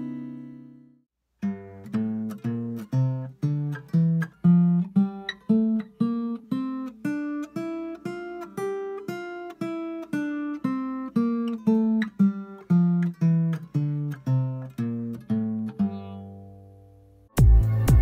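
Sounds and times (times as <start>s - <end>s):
acoustic guitar plucked notes: 0.0s - 18.0s.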